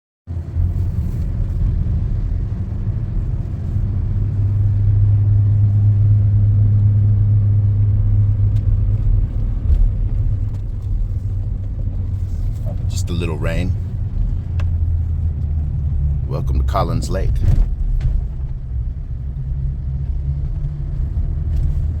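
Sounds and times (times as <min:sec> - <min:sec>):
vehicle engine and road noise: 0:00.3 - 0:22.0.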